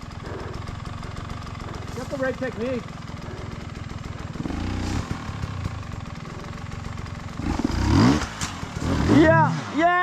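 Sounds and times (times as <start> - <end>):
off-road motorcycle engine revving: 0.0 - 10.0.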